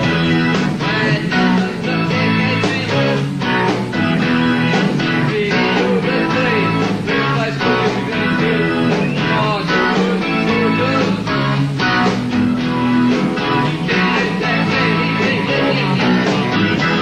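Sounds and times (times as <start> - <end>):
lead guitar bending notes: 0.0 - 17.0
rock band playing: 0.0 - 17.0.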